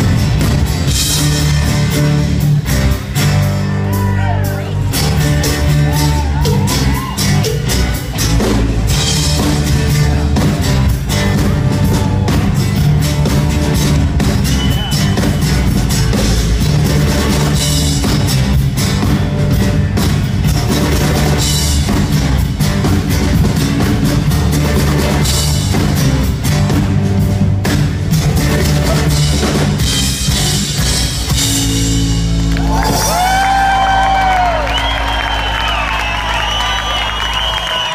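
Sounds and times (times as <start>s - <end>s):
bass guitar: 0.0s - 37.9s.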